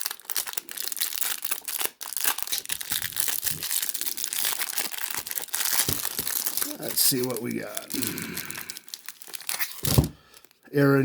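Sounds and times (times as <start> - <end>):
foil wrapper crinkling: 0.0 - 10.6.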